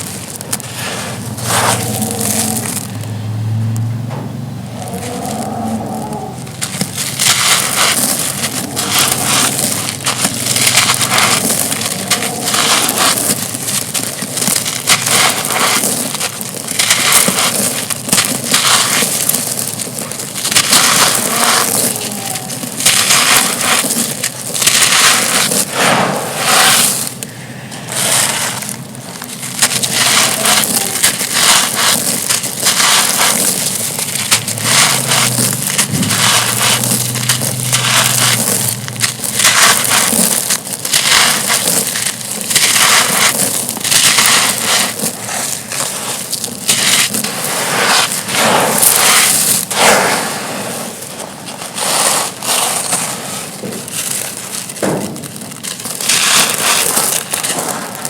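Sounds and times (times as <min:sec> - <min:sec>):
dry stone slabs crunching: 0:00.0 - 0:58.0.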